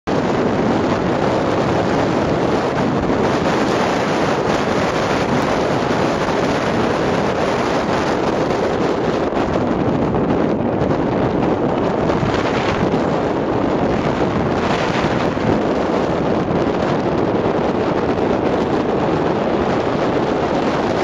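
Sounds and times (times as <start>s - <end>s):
wind on microphone: 0.0s - 21.0s
car road noise: 0.1s - 21.0s.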